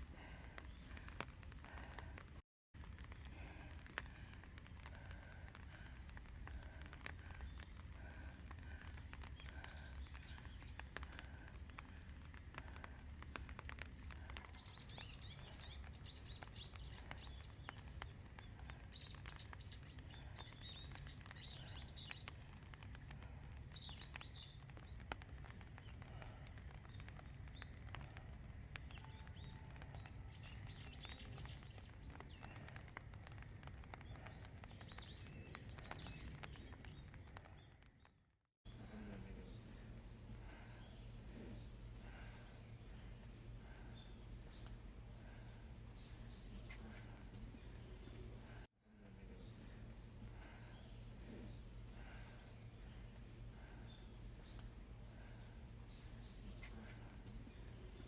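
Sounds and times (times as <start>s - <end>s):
rain drops ticking: 0.0s - 58.0s
small birds chirping: 0.0s - 58.0s.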